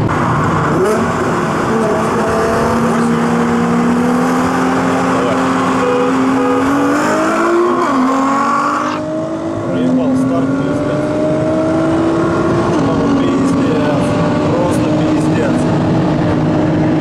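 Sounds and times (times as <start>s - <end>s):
cars accelerating at full throttle: 0.0s - 17.0s.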